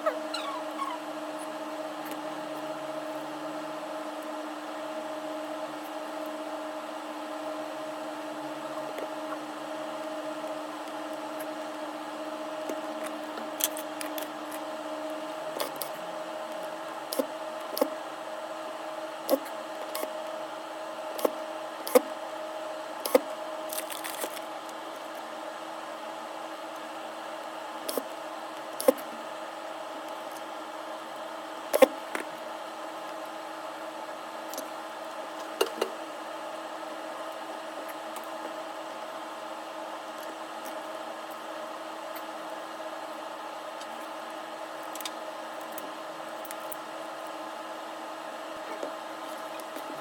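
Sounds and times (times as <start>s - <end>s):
steady electrical hum: 0.0s - 50.0s.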